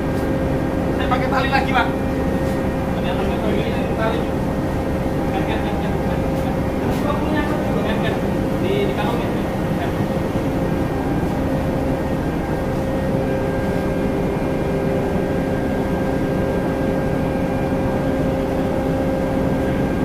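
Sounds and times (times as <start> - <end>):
ship machinery droning: 0.0 - 20.0.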